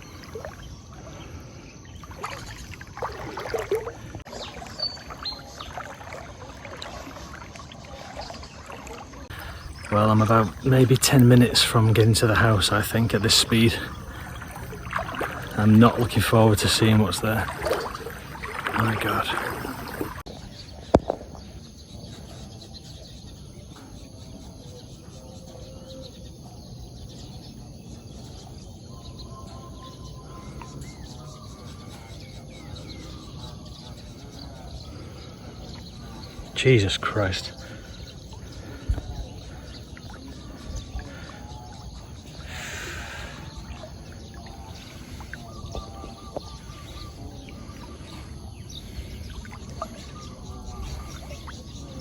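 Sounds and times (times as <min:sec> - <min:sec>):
water splashing: 0:00.0 - 0:21.6, 0:30.3 - 0:52.0
floodwater sloshing as person wades: 0:00.0 - 0:22.0, 0:29.3 - 0:52.0
faint bird calls: 0:00.0 - 0:52.0
insects: 0:00.0 - 0:52.0.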